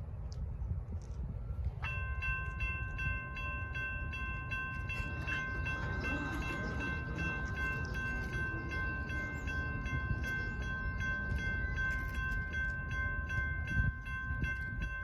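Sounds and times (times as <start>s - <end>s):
low rumble: 0.0s - 15.0s
railroad crossing bell ringing: 1.8s - 15.0s.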